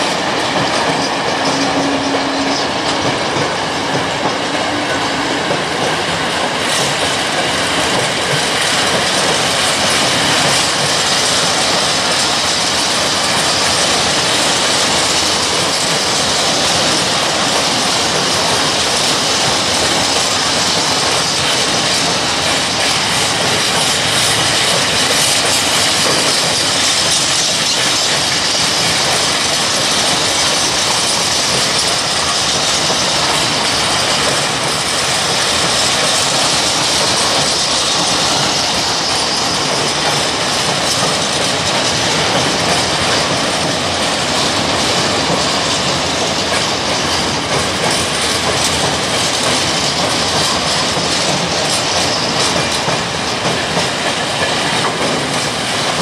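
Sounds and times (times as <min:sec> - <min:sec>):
train wheels rolling over rails: 0:00.0 - 0:56.0.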